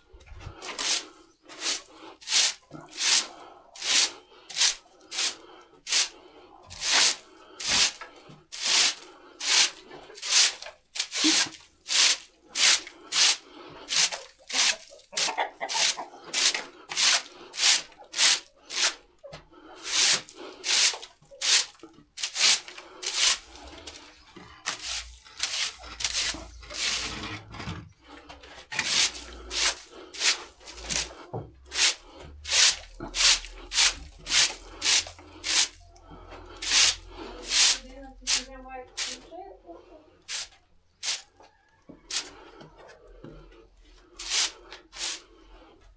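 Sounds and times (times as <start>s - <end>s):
tool scraping barn floor: 0.0s - 39.4s, 40.2s - 45.9s.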